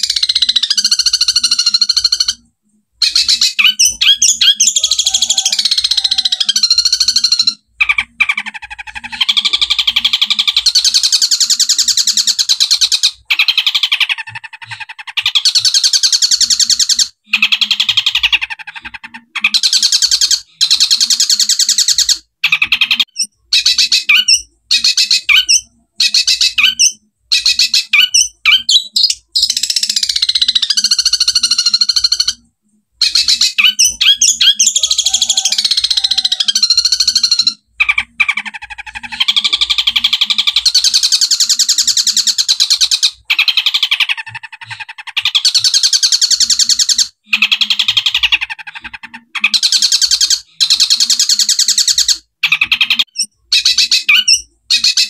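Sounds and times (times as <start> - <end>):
bird harsh chattering song: 0.0 - 55.0.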